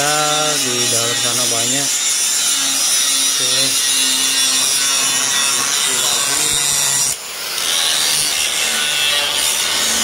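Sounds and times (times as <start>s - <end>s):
angle grinder grinding metal: 0.0s - 10.0s.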